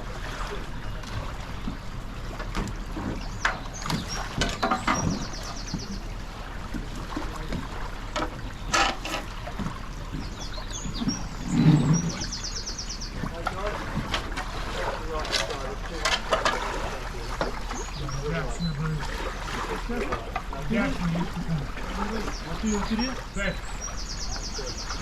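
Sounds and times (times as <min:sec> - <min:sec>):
paddle splashes: 0:00.0 - 0:25.0.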